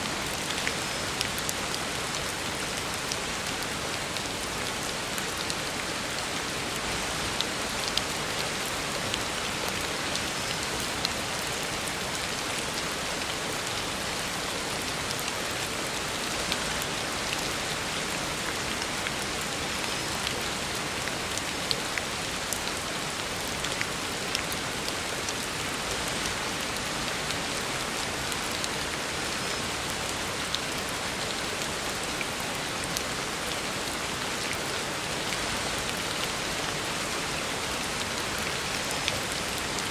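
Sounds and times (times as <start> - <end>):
heavy rain on a road: 0.0 - 39.9.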